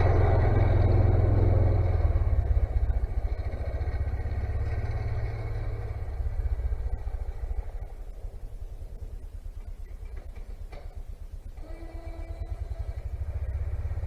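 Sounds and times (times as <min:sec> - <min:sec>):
engine pulsing idle: 0:00.0 - 0:14.0.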